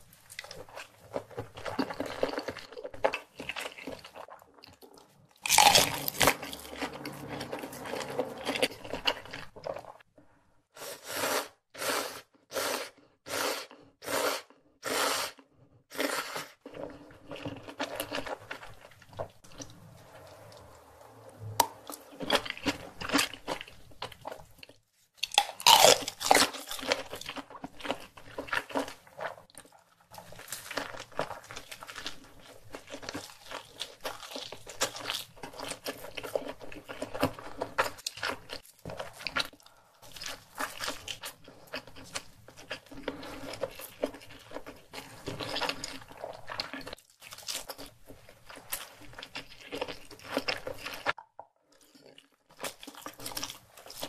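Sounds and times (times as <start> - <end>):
person chewing: 0.2 - 10.0, 10.8 - 54.0.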